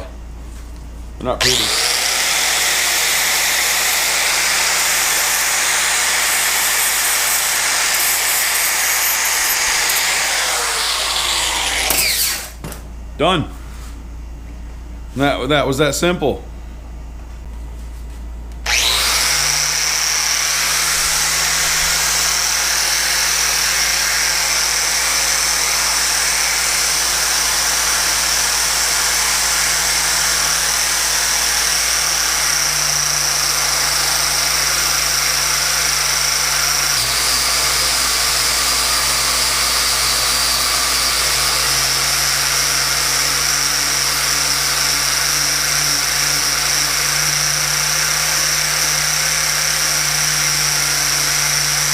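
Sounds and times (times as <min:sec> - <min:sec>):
power tool motor whine: 0:01.4 - 0:12.6, 0:18.6 - 0:51.9.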